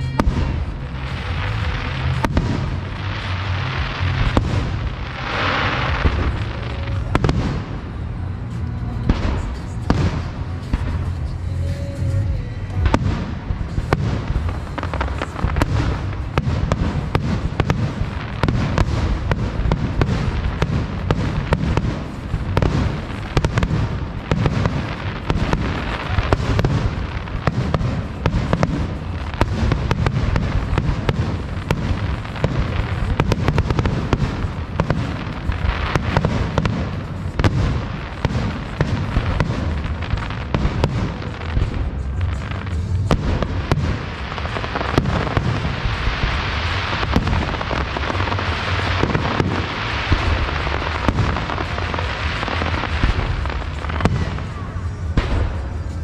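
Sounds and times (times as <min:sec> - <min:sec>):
deep fireworks booms: 0:00.0 - 0:56.0
fireworks bangs and crackles: 0:00.0 - 0:56.0.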